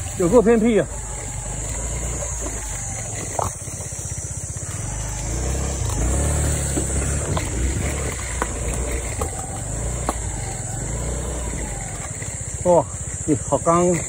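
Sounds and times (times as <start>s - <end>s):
scooter engine climbing: 0.0s - 14.0s.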